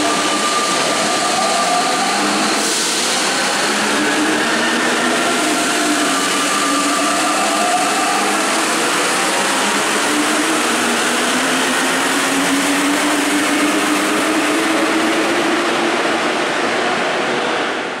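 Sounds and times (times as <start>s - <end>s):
metro train rushing rumble: 0.0s - 18.0s.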